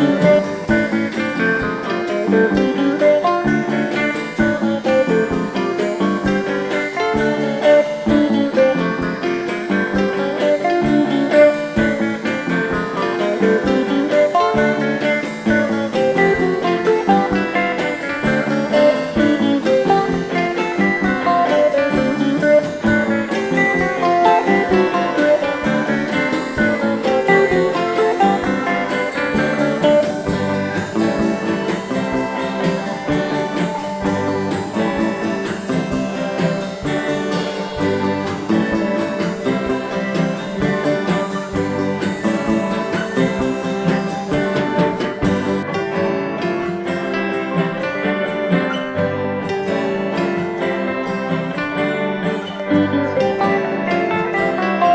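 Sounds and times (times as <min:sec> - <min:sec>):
guitar plucked notes: 0:00.0 - 0:54.9.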